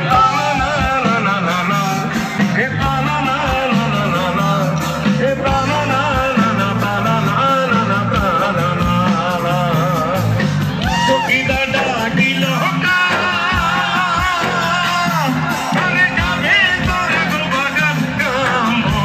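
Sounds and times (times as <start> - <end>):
live band music: 0.0 - 19.0
man singing lead vocal: 0.0 - 19.0.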